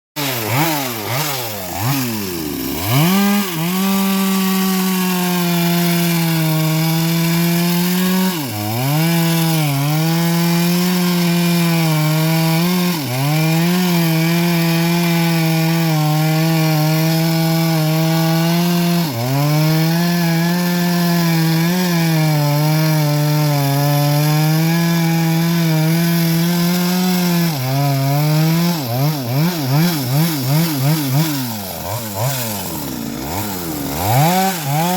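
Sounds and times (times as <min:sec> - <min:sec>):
bandsaw cutting log: 0:00.2 - 0:34.9
two-stroke engine revving: 0:00.2 - 0:34.9.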